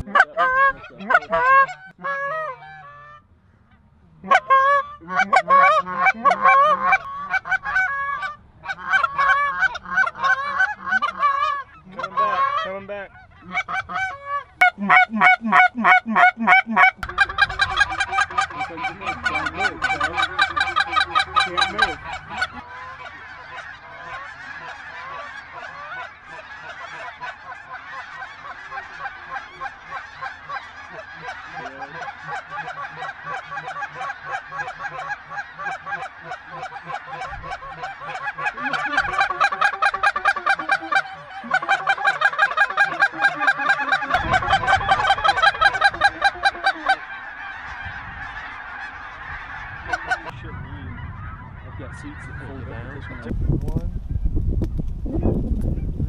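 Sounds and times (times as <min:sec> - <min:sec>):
hand-blown goose calls: 0:00.0 - 0:03.2, 0:04.2 - 0:50.4
geese honking: 0:00.0 - 0:53.4.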